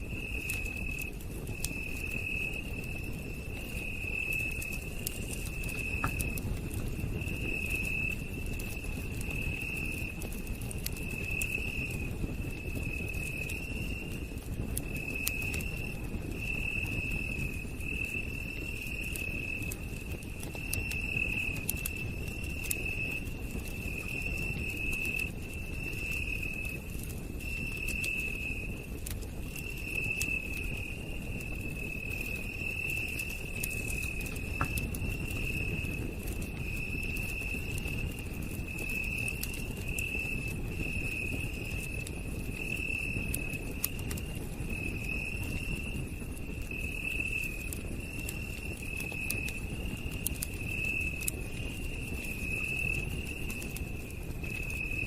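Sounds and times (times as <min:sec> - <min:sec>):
campfire crackling and popping: 0:00.0 - 0:55.0
insects trilling: 0:00.2 - 0:10.1, 0:14.8 - 0:26.7, 0:27.4 - 0:28.7, 0:29.5 - 0:55.0.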